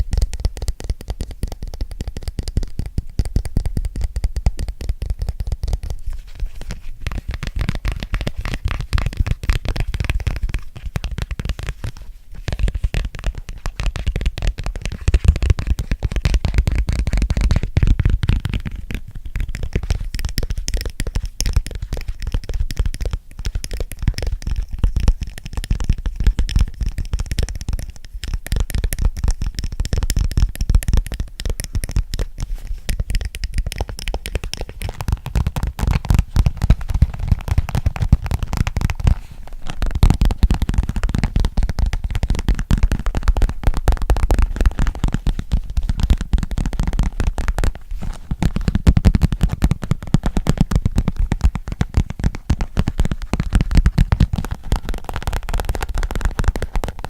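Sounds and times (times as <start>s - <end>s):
fingernails tapping fast: 0.0s - 57.0s.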